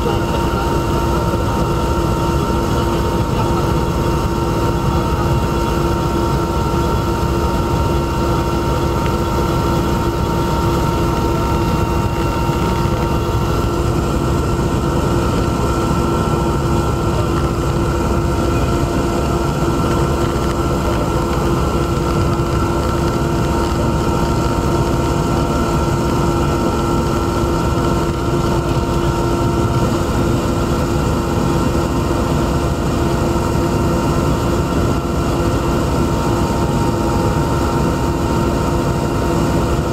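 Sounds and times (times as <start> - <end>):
aircraft cabin engine drone: 0.0 - 39.9.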